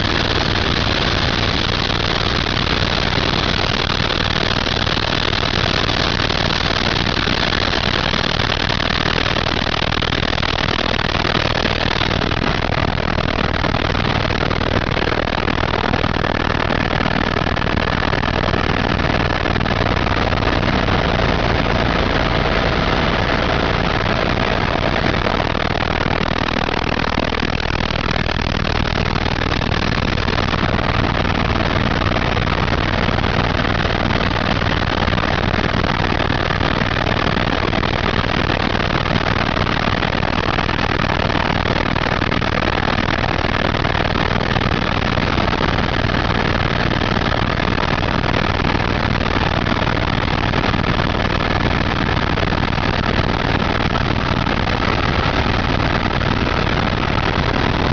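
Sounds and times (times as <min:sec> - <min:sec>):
faint steady whines: 0:00.0 - 0:57.9
helicopter rotor and turbine noise: 0:00.0 - 0:57.9.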